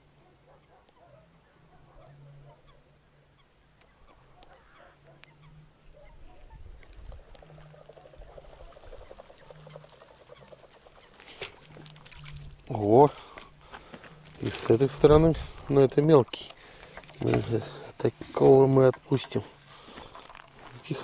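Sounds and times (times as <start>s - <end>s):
distant ducks and geese calling: 0.0s - 21.0s.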